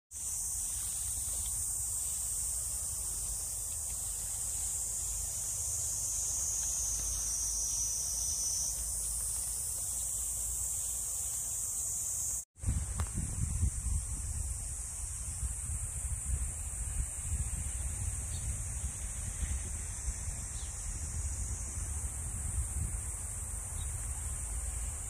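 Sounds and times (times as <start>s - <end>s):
high-pitched insect chorus: 0.1s - 25.0s.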